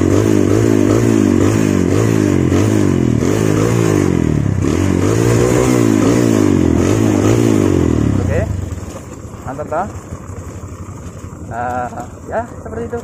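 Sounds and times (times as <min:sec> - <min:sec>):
motorcycle engine on dirt trail: 0:00.0 - 0:13.0.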